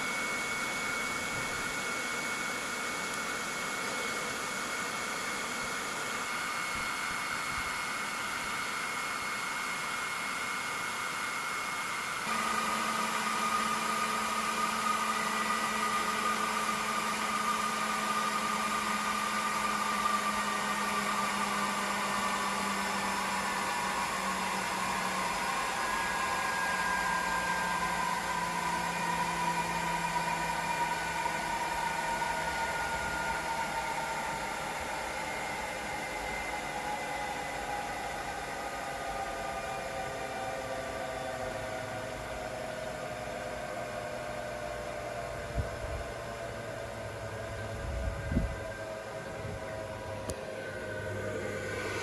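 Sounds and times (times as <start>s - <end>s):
leaf blower rushing air: 0.0s - 52.0s.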